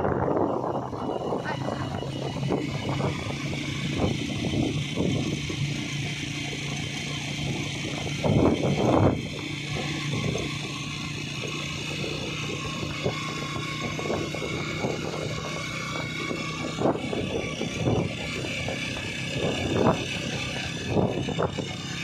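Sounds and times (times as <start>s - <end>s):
wind noise on microphone: 0.0s - 6.1s, 7.4s - 10.9s, 12.0s - 22.0s
motorcycle engine running: 0.0s - 22.0s.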